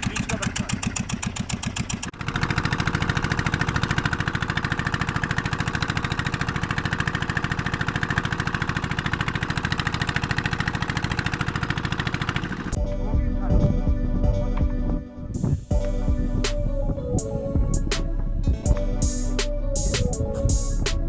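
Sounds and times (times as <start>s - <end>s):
boat engine pulsing: 0.0s - 21.0s.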